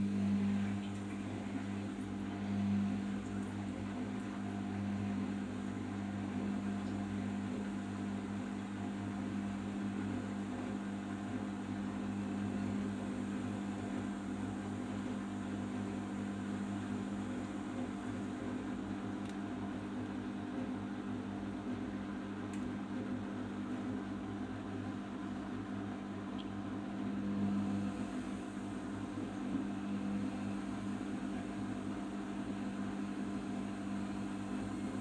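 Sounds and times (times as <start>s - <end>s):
washing machine humming: 0.0s - 35.0s.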